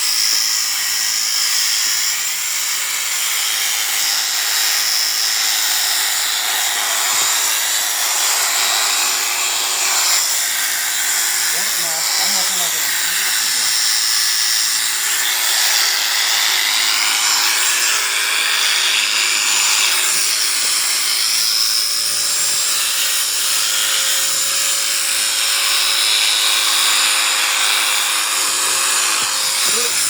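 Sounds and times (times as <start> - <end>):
electric sheep shears whining: 0.0 - 30.0.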